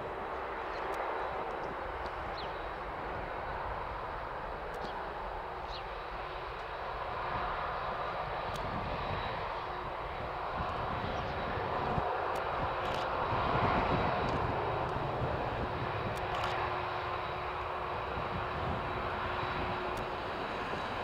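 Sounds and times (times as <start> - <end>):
jet engines running at low thrust: 0.0 - 21.0.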